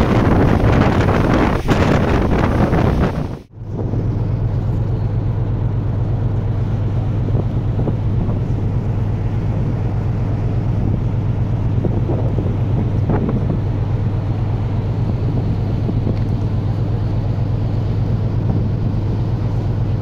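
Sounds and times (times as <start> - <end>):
low hum of ship machinery: 0.0 - 20.0.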